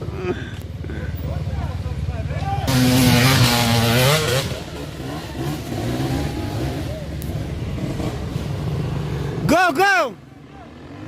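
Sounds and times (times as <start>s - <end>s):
distant motorbike engines: 0.0s - 11.0s
motocross bike engine revving: 0.8s - 9.5s, 10.6s - 11.0s.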